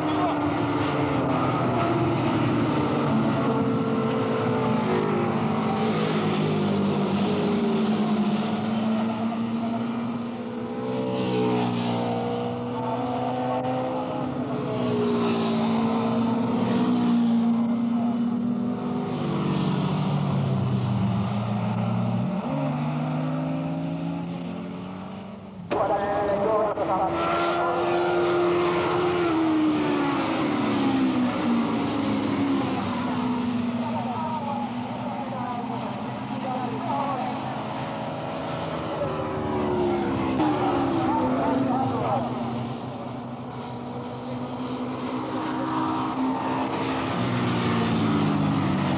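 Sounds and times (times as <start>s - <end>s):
racing motorcycle engines: 0.0s - 48.9s.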